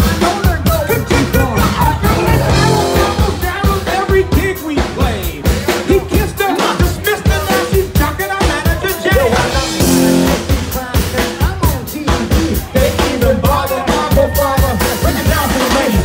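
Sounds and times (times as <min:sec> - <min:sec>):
drum kit beat: 0:00.0 - 0:16.0
live rock band: 0:00.0 - 0:16.0.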